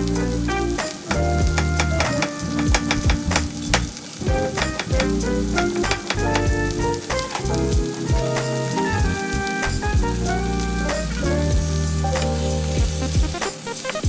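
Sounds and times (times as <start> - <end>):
background music: 0.0 - 14.0
food sizzling in a pan: 0.0 - 14.0.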